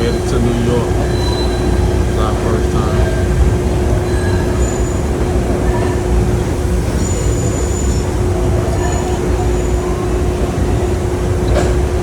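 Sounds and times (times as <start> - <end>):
train rumble inside car: 0.0 - 12.0.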